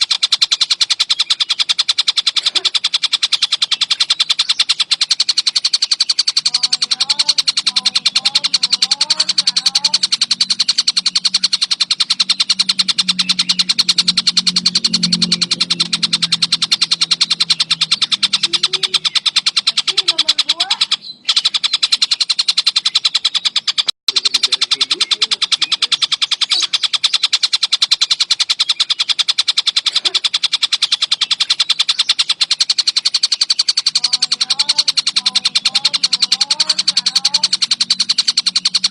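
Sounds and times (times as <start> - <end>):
kingfisher calling harsh high notes: 0.0 - 38.9.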